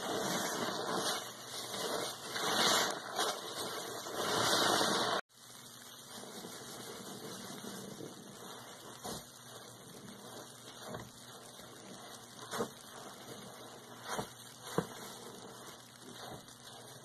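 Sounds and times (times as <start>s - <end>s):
sponge squelching: 0.0s - 5.2s, 6.1s - 17.0s
foam fizzing: 0.0s - 17.0s.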